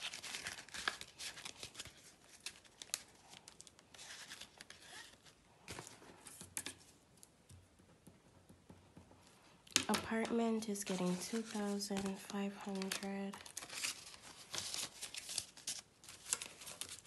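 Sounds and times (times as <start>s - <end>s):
paper rustling and crinkling: 0.0s - 7.0s, 9.8s - 17.0s.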